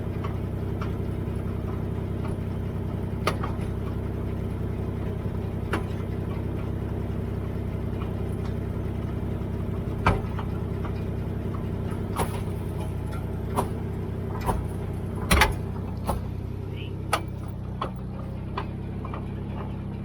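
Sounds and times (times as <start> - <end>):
car engine idling: 0.0 - 20.0
engine clunks and knocks: 0.0 - 20.0.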